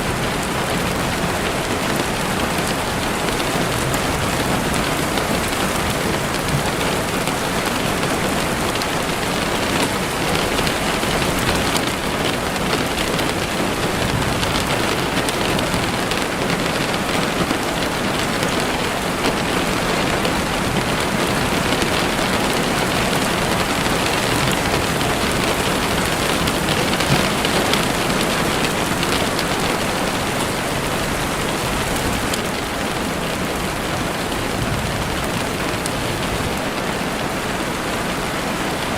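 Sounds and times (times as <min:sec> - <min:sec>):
heavy rain on a window: 0:00.0 - 0:38.9.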